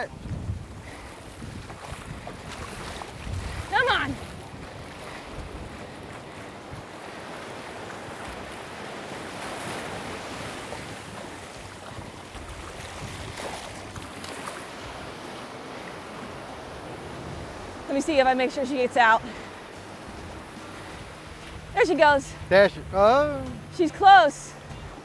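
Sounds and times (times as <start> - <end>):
surf washing over sand: 0.0 - 25.0
wind buffeting microphone: 0.0 - 25.0.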